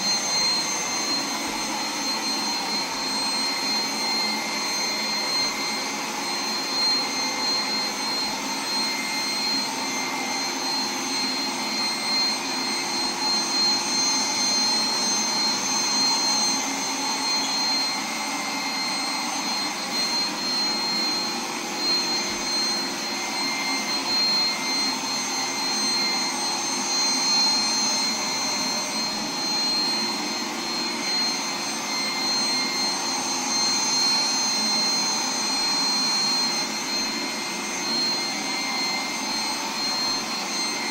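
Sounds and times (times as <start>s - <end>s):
robot vacuum whirring: 0.0s - 40.9s.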